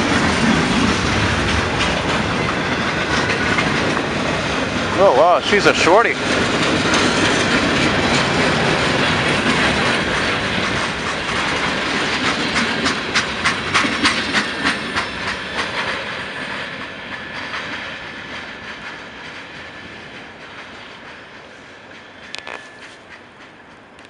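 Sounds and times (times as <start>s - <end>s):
freight train rolling on rails: 0.0s - 24.0s
wheels clicking over rail joints: 0.0s - 24.0s.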